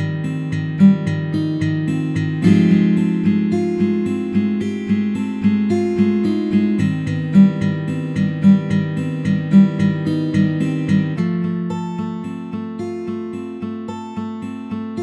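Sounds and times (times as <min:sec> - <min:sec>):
plucked instrumental music: 0:00.0 - 0:15.0.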